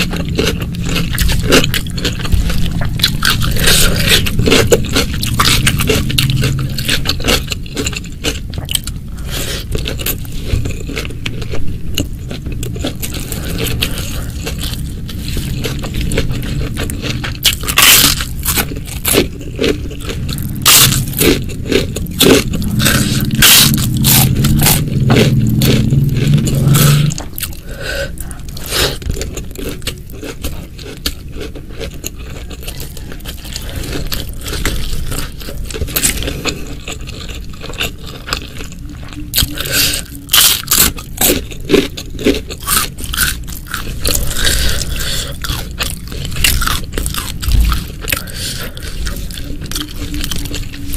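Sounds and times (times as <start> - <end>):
crunchy food chewing: 0.0 - 50.9
low steady hum: 0.0 - 50.9.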